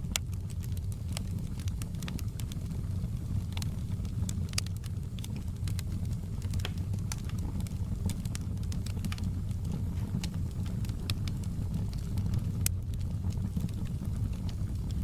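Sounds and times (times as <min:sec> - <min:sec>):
logs crackling and popping: 0:00.0 - 0:15.0
low roar of flames: 0:00.0 - 0:15.0.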